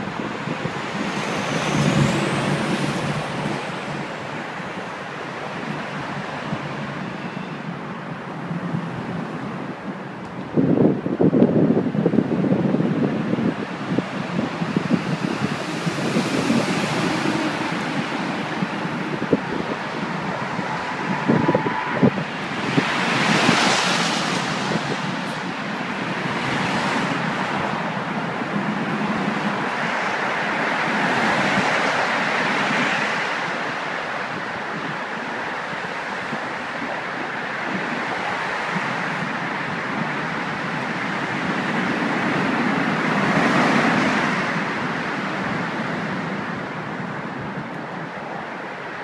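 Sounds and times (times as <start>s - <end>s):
traffic on bridge: 0.0s - 49.0s
wind rushing over microphone: 0.0s - 49.0s.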